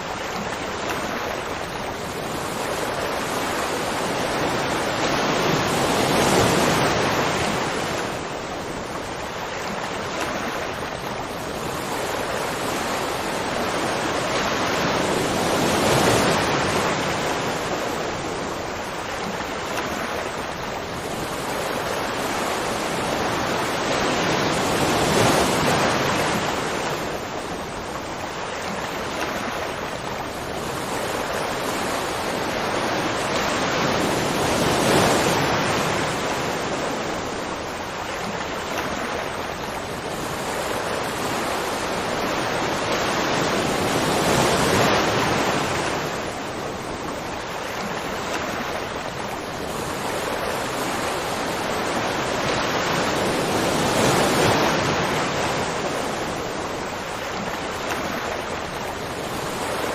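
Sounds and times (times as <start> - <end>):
rushing water roar: 0.0 - 59.9.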